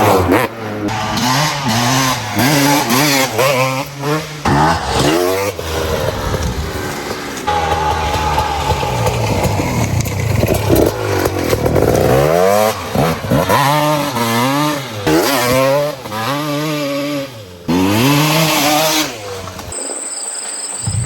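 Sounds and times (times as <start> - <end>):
dirt bike engine revving: 0.0 - 19.7.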